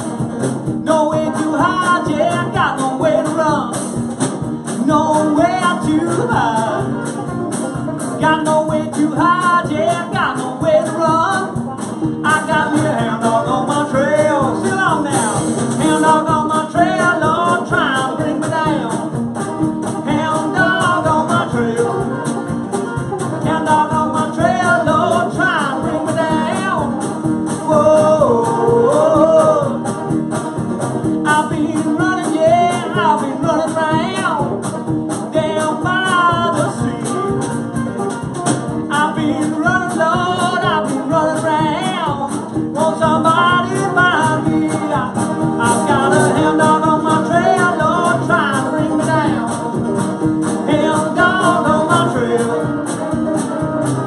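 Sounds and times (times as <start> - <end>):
man singing: 0.0 - 3.9, 4.6 - 7.4, 8.0 - 19.2, 19.8 - 22.5, 23.2 - 30.0, 31.1 - 38.1, 38.7 - 53.8
country band playing: 0.0 - 54.0.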